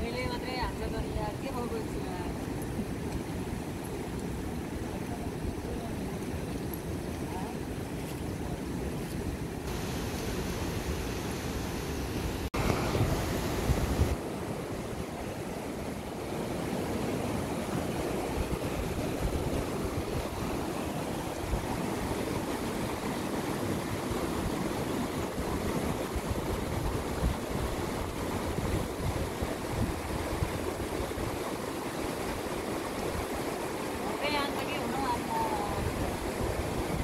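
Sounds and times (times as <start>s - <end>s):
river rapids rushing over boulders: 0.1s - 37.0s.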